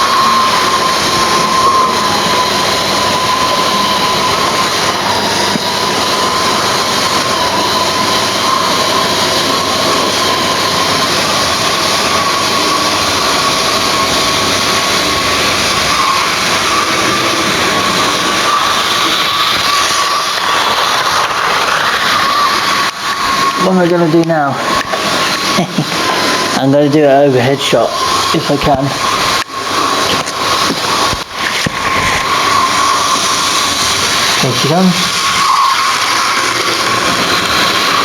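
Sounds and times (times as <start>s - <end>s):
electric motor whine: 0.0s - 38.0s.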